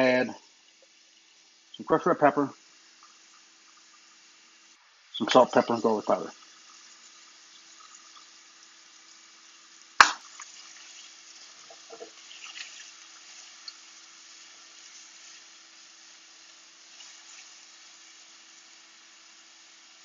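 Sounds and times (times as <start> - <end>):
faint steady hum: 0.0 - 20.0
onion sizzling in oil: 0.0 - 20.0.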